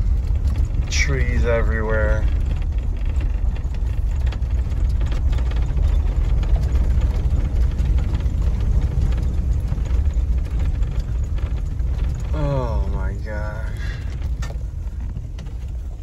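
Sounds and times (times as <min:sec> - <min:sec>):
faint rattles and clicks: 0:00.0 - 0:16.0
van engine and road rumble: 0:00.0 - 0:16.0.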